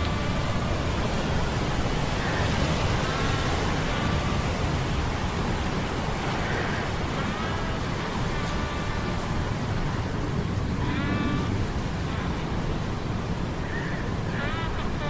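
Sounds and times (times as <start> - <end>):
sea storm: 0.0 - 15.0.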